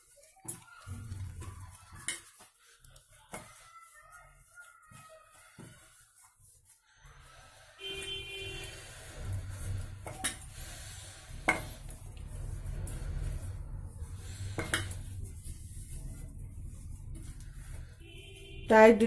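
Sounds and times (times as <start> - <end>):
dough kneading rubbing: 0.0 - 19.0.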